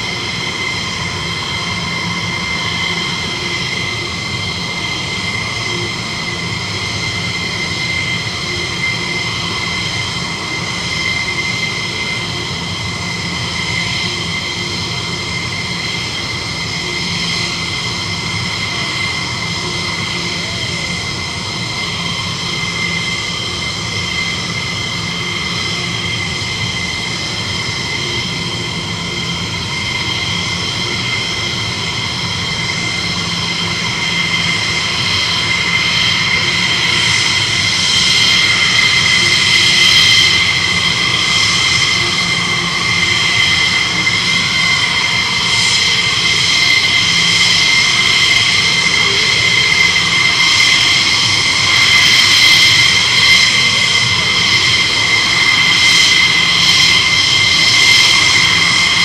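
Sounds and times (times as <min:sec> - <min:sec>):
jet engine idling: 0:00.0 - 0:59.0.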